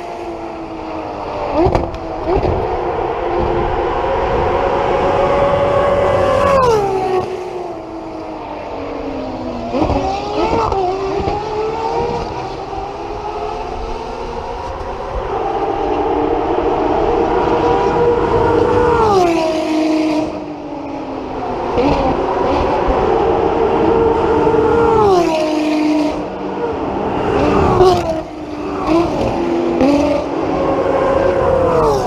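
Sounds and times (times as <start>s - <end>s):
car engine at high revs: 0.0s - 32.0s.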